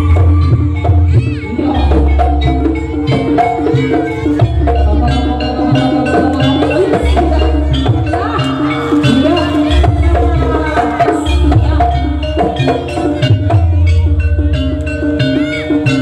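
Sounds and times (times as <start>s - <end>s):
drums: 0.0s - 16.0s
metallophones and gongs: 0.0s - 16.0s.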